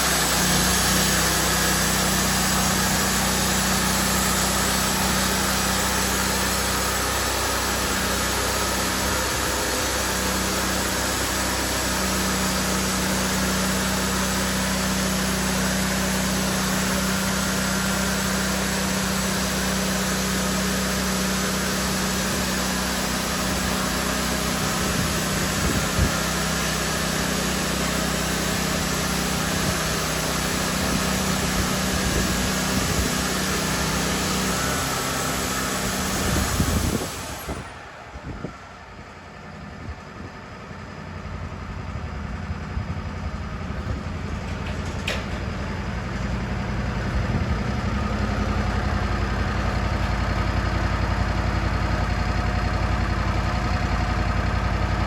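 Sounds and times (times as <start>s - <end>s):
engine drone: 0.0s - 55.0s.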